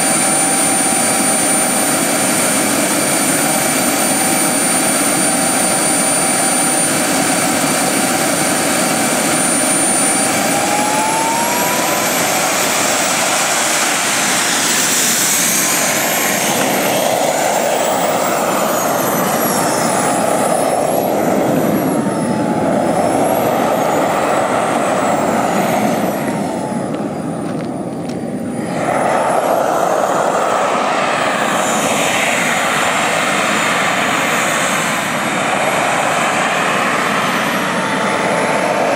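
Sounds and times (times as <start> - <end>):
model jet turbine whine: 0.0 - 38.9.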